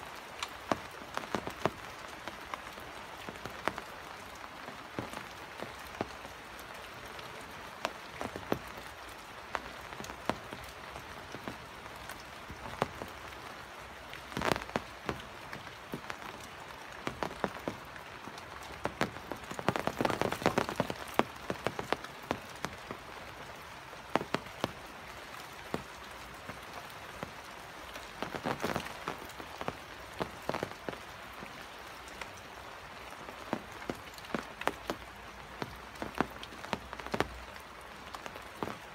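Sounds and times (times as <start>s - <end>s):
rain drops pattering: 0.0s - 38.9s.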